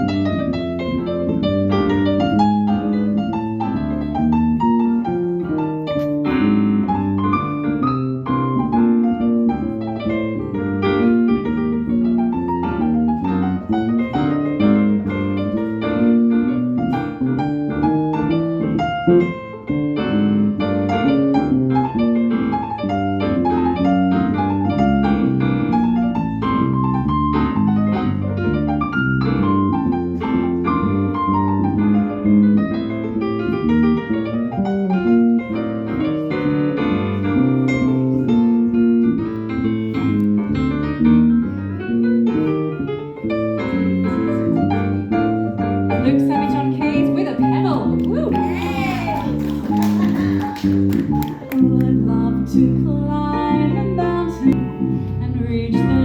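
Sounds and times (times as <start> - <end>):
piano playing: 0.0 - 56.0.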